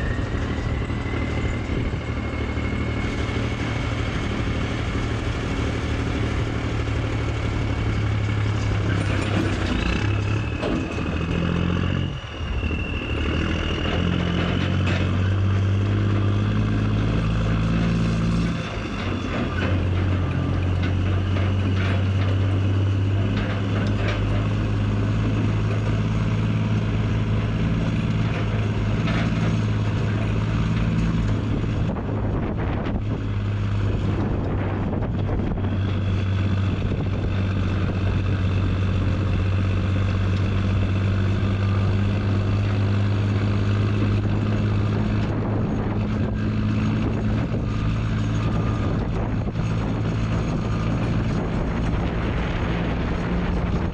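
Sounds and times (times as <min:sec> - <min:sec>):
truck engine accelerating: 0:00.0 - 0:53.9
wind: 0:00.0 - 0:53.9.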